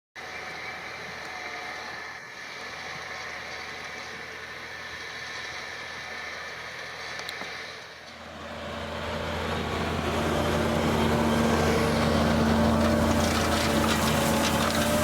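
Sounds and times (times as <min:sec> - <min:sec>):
tractor engine running: 0:00.2 - 0:15.0.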